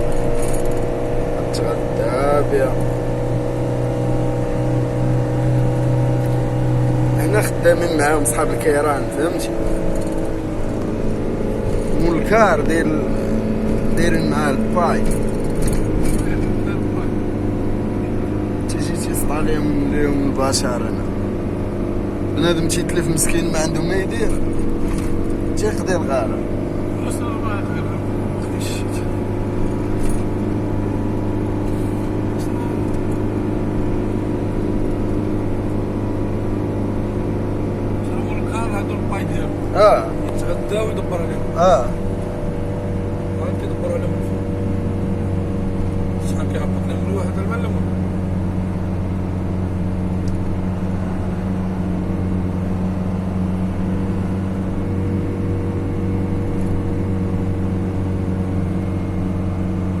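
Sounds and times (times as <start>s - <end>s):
road noise: 0.0s - 60.0s
vehicle engine drone: 0.0s - 60.0s.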